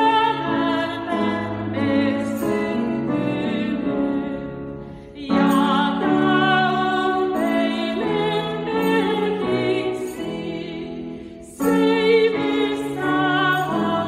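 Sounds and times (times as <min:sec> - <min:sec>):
piano accompaniment: 0:00.0 - 0:14.0
women singing in harmony: 0:00.0 - 0:14.0.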